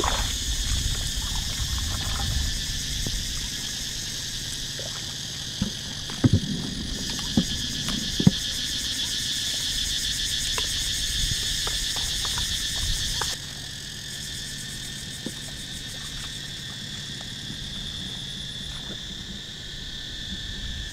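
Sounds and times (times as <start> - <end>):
chorus of insects and frogs: 0.0 - 20.9.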